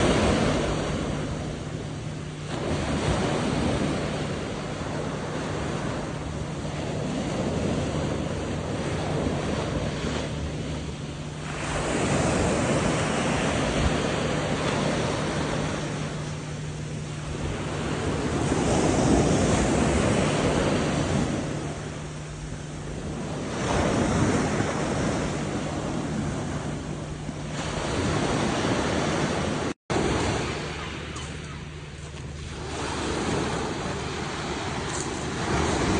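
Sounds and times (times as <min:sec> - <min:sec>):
sea surf breaking: 0:00.0 - 0:35.9.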